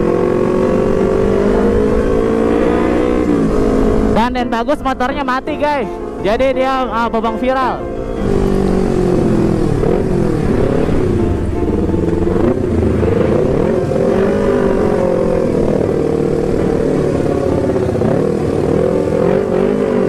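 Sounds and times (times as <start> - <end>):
motorcycle engine running: 0.0 - 4.3, 8.1 - 20.0
road and wind noise: 0.0 - 20.0.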